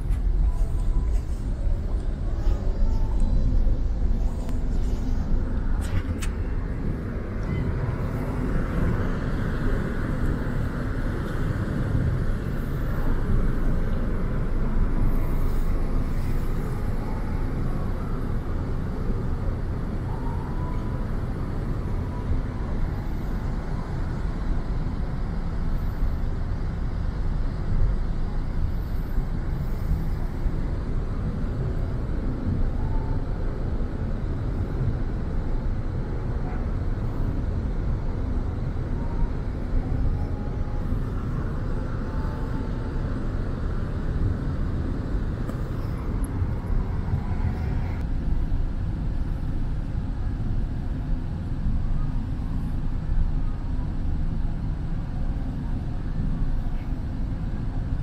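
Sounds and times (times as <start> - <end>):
low rumble of ferry: 0.0 - 58.0.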